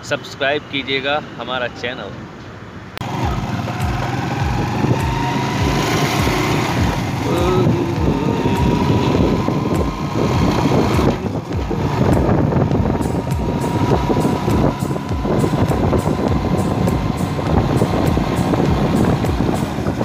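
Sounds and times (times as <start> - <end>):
motorcycle engine running: 3.0 - 20.0
wind buffeting microphone: 3.0 - 20.0.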